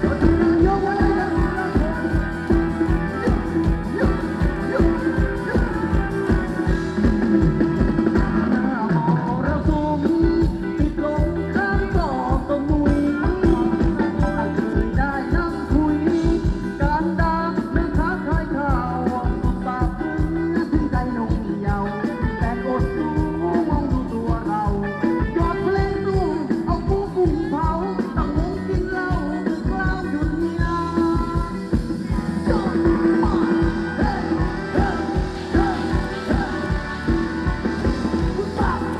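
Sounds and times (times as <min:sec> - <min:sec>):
fast drum beat: 0:00.0 - 0:38.9
live band dance music: 0:00.0 - 0:38.9
person singing: 0:00.0 - 0:38.9.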